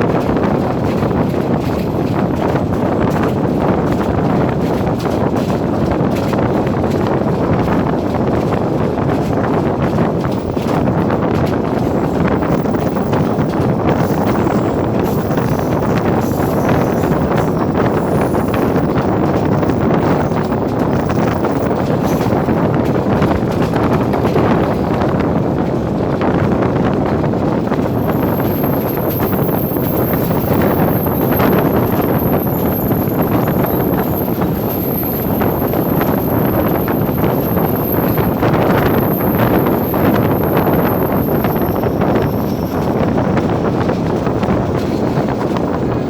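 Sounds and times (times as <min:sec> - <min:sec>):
moving passenger train: 0:00.0 - 0:46.0
wind buffeting microphone: 0:00.0 - 0:46.0.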